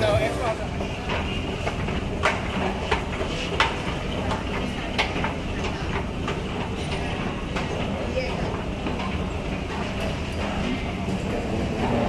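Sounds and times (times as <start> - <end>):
low rumble in busy hall: 0.0 - 12.0.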